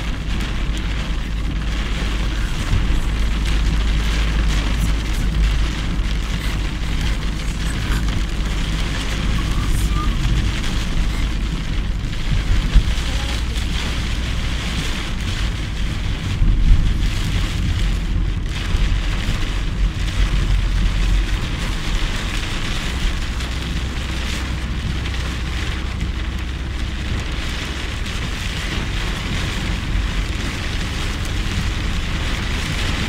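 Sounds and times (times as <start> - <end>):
heavy rain beating on a car: 0.0 - 33.0
low rumble of wind and road: 0.0 - 33.0.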